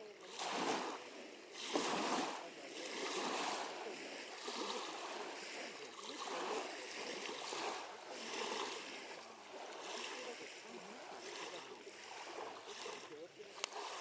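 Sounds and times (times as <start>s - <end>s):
small waves lapping: 0.0s - 14.0s.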